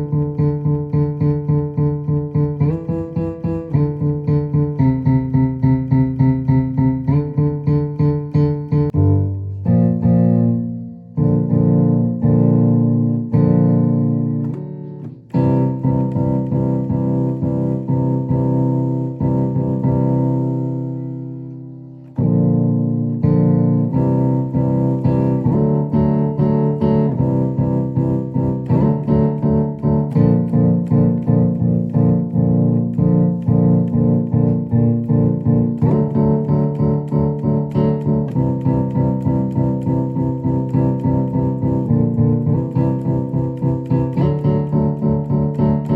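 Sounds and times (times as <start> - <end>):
keyboard piano chords: 0.0 - 45.9.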